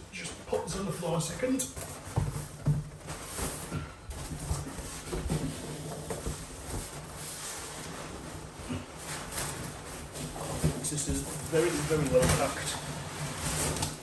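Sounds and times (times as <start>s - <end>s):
packing foam rubbing and scraping: 0.2s - 14.0s.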